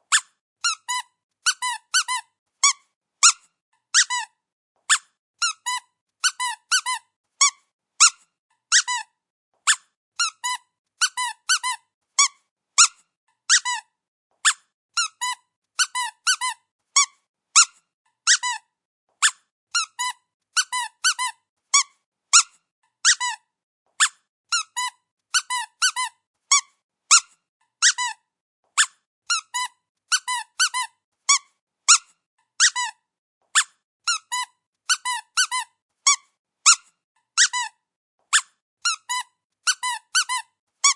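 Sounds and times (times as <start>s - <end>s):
squeaky dog toy squeaking: 0.0s - 40.9s.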